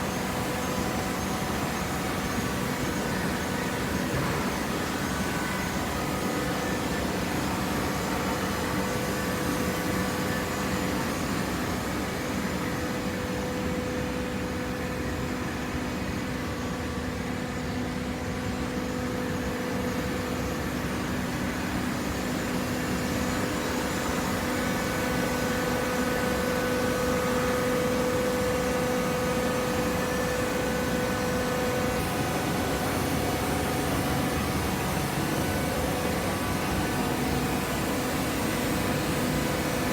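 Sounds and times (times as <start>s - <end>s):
machine whining tone: 0.0s - 39.9s.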